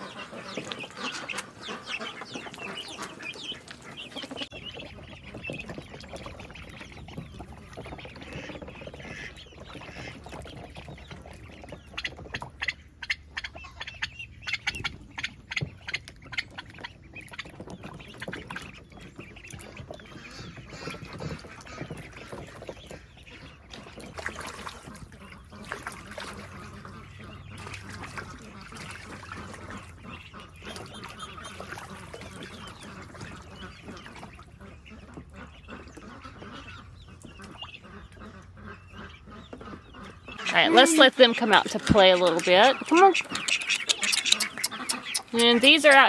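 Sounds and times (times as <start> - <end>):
chickens calling: 0.0 - 46.0
ducks quacking: 0.0 - 46.0.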